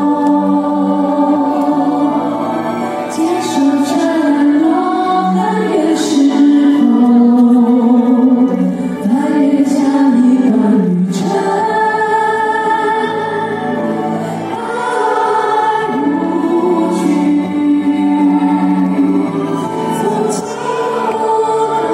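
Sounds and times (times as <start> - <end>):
choir singing: 0.0 - 21.9
woman singing lead: 0.0 - 21.9.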